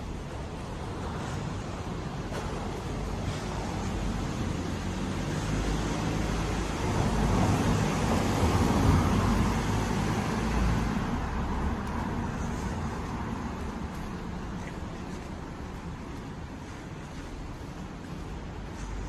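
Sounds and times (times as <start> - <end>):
road vehicle passing: 0.1 - 19.0.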